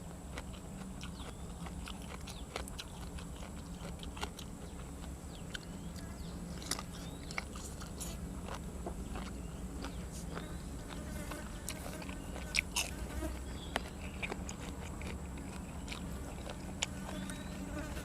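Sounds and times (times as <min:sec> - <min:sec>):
person chewing and crunching food: 0:00.0 - 0:18.0
steady low hum: 0:00.0 - 0:18.0.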